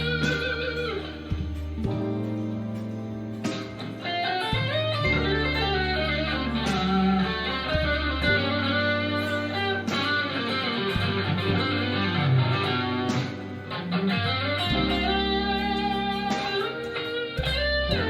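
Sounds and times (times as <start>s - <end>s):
overdriven electric guitar riff: 0.0s - 18.0s.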